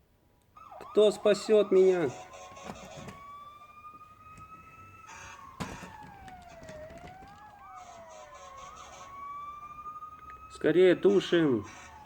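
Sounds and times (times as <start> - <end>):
faint siren wail: 0.6 - 12.0.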